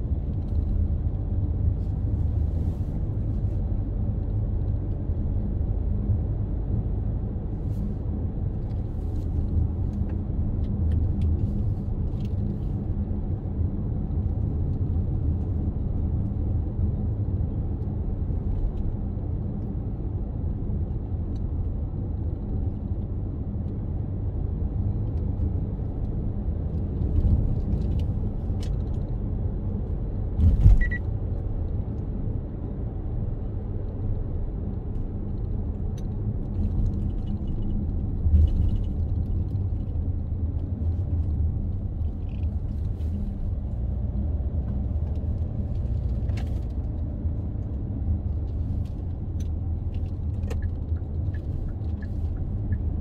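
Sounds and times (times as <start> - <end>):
tyres and engine rumble: 0.0 - 53.0.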